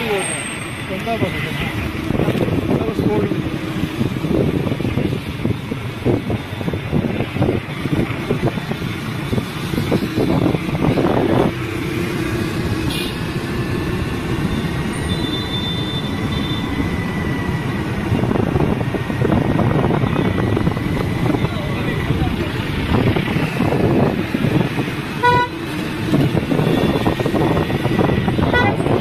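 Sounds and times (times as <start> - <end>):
wind buffeting microphone: 1.7 - 15.0, 16.1 - 29.0.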